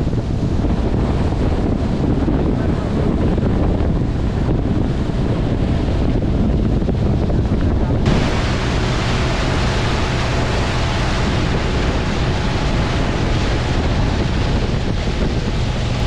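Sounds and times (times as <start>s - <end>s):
boat motor droning: 0.0s - 16.0s
water noise: 0.0s - 16.0s
wind on microphone: 0.0s - 16.0s.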